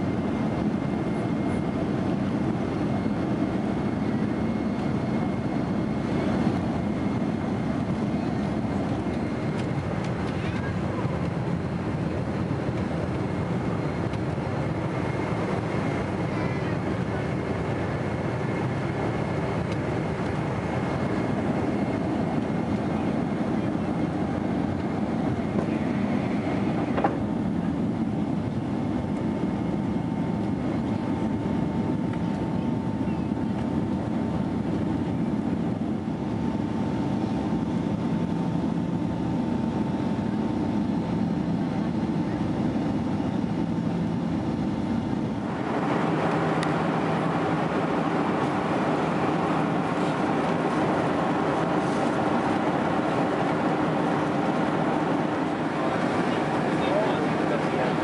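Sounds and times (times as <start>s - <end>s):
faint steady whine: 0.0s - 58.0s
jet engine roar in cabin: 0.0s - 58.0s.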